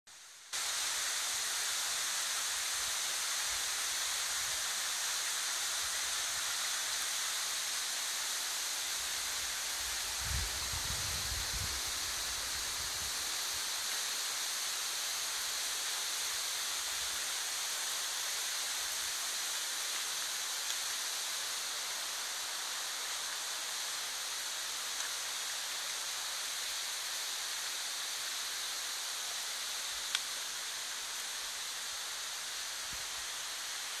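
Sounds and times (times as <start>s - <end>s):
stream rushing over rocks: 0.4s - 34.0s.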